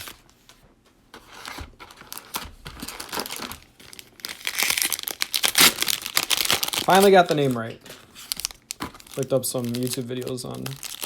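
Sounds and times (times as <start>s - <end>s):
cellophane wrapper crinkling and tearing: 1.4s - 11.0s.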